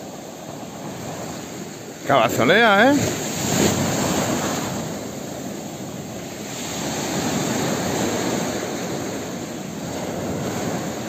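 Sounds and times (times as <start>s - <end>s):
waves washing up a sandy beach: 0.0s - 11.0s.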